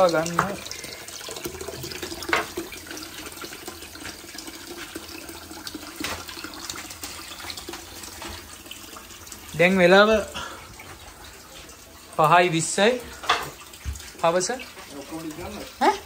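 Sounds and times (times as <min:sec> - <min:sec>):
tap water running into a steel bowl: 0:00.0 - 0:16.0.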